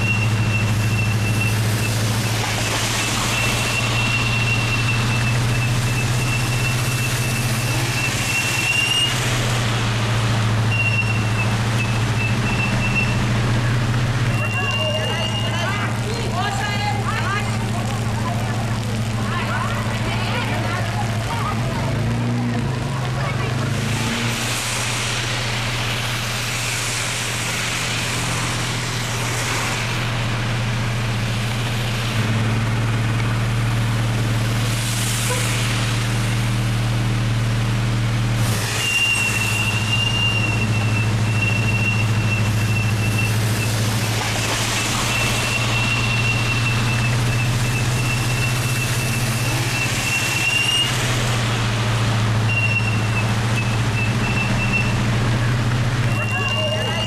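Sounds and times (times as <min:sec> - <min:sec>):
rain and wet tyres hissing: 0:00.0 - 0:57.0
vehicle engine humming: 0:00.0 - 0:57.0.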